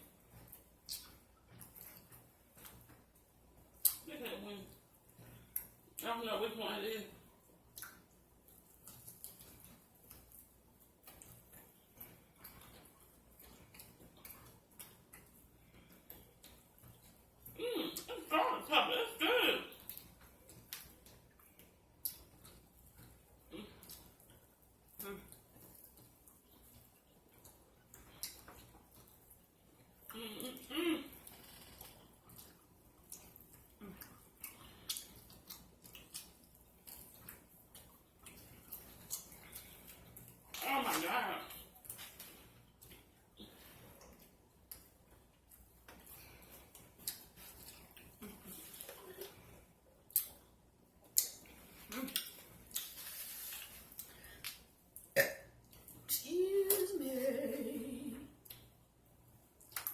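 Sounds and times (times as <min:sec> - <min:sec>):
person chewing wet clicks: 0:00.3 - 0:04.1, 0:07.4 - 0:18.1, 0:19.8 - 0:30.2, 0:31.2 - 0:40.6, 0:41.5 - 0:56.8, 0:58.4 - 0:59.9.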